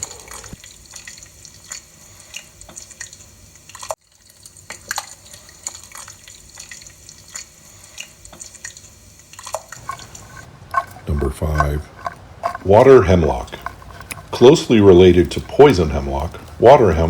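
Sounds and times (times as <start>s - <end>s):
water dripping: 0.0s - 17.0s.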